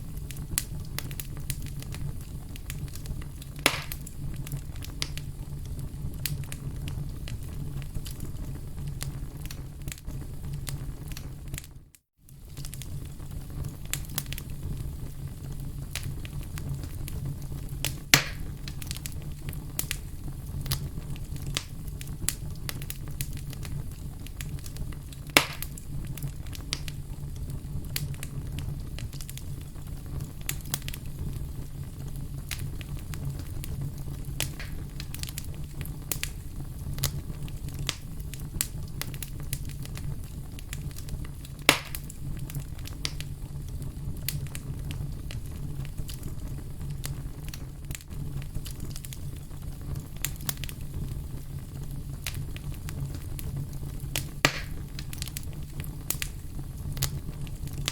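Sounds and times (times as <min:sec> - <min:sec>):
fire crackling in a fireplace: 0:00.0 - 0:57.9
loud sharp pops of fire: 0:00.0 - 0:57.9.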